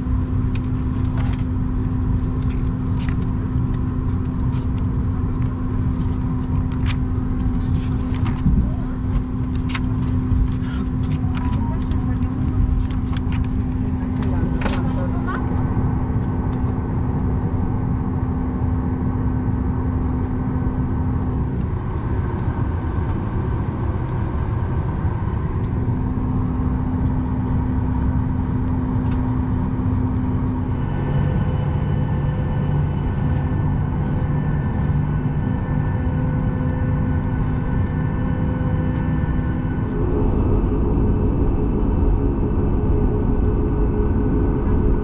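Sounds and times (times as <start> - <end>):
aircraft cabin hum: 0.0 - 45.0
deeper machinery hum: 0.0 - 45.0.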